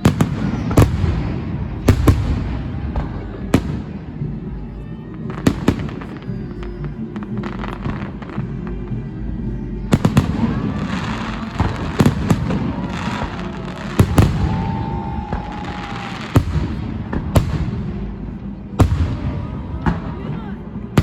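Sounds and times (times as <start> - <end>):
fireworks rumble: 0.0 - 21.0.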